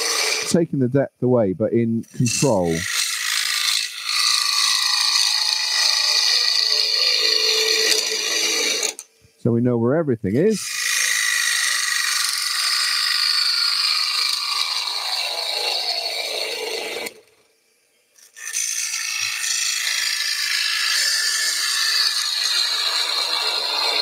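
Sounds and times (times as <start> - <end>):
gouge cutting wood on a lathe: 0.0 - 0.6, 2.1 - 9.0, 10.6 - 17.3, 18.2 - 24.0.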